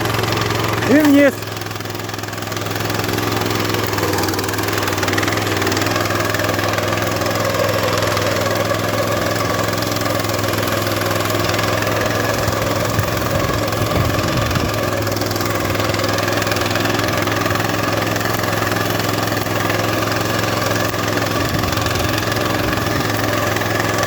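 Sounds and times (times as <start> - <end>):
petrol engine running: 0.0 - 24.0.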